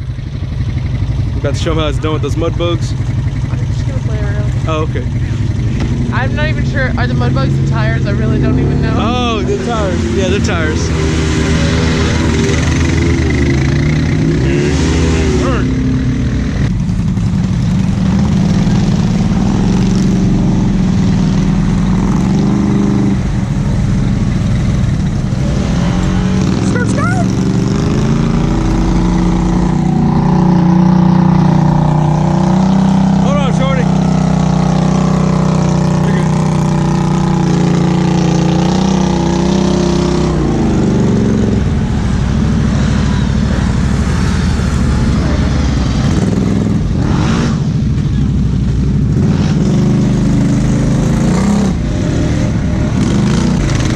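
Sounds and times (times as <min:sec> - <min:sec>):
atv engine under throttle: 0:00.0 - 0:53.9.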